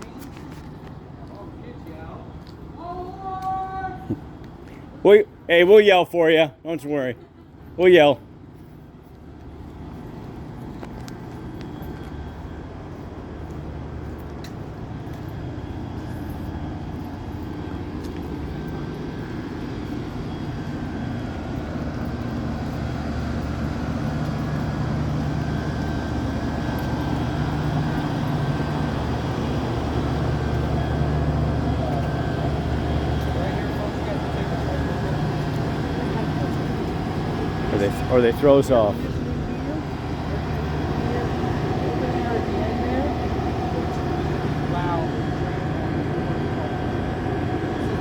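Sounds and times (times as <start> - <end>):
locomotive engine droning: 0.0 - 48.0.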